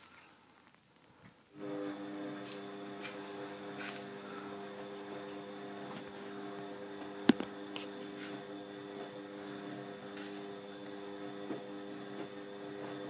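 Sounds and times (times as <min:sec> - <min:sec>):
washing machine humming: 0:01.6 - 0:13.0.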